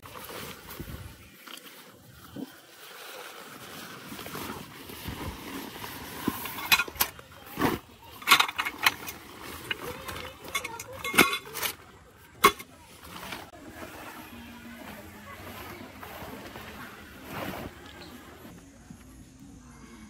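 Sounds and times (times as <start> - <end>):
tent fabric rustling and crinkling: 0.0 - 19.0.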